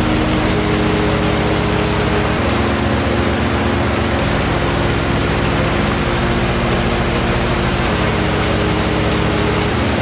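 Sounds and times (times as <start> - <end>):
low droning tones: 0.0 - 10.0.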